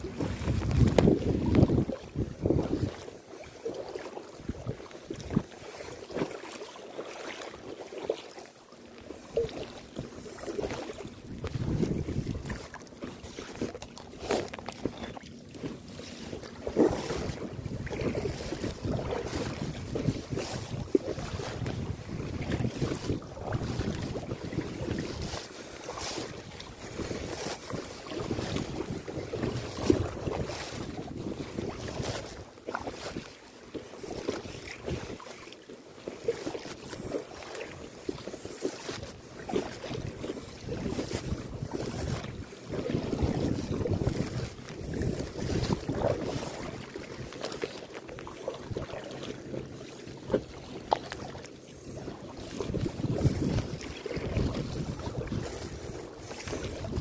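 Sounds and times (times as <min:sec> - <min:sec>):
wind rumble on microphone: 0:00.0 - 0:06.6, 0:09.3 - 0:35.3, 0:36.4 - 0:57.0
paddle splashing and dripping: 0:00.0 - 0:57.0
water lapping: 0:00.0 - 0:57.0.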